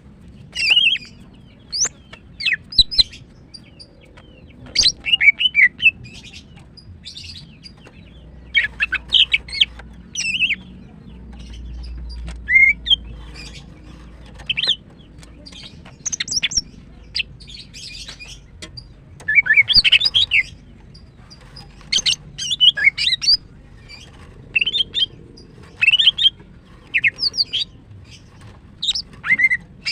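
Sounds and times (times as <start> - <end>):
bird chirping: 0.3 - 29.9.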